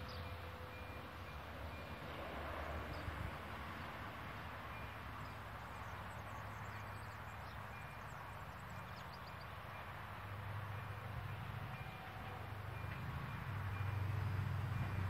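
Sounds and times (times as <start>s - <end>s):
approaching train rumble: 0.0s - 15.0s
steady outdoor hiss: 0.0s - 15.0s.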